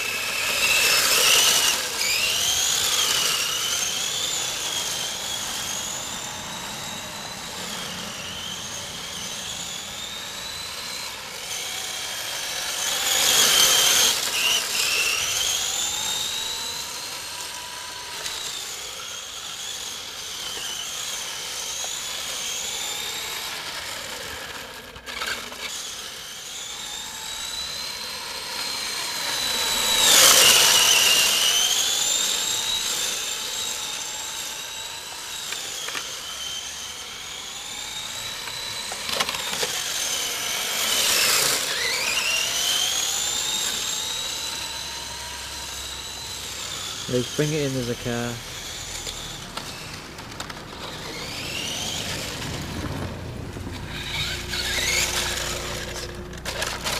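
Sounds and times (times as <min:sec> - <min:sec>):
rc car motor whining: 0:00.0 - 0:56.9.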